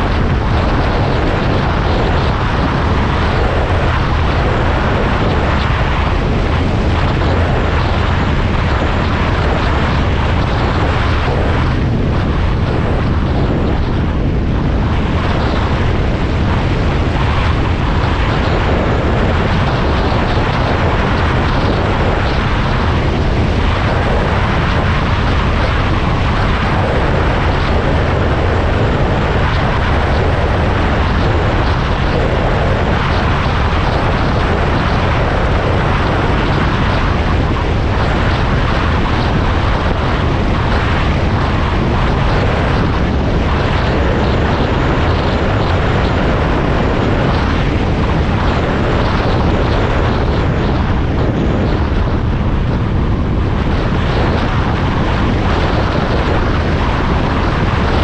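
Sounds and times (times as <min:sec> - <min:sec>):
ride noise: 0:00.0 - 0:58.0.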